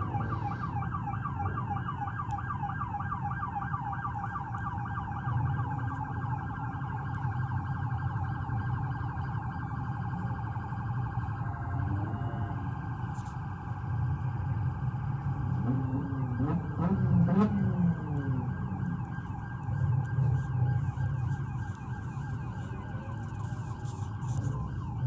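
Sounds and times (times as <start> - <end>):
electronic siren yelping: 0.0 - 25.0
low vehicle rumble: 0.0 - 25.0.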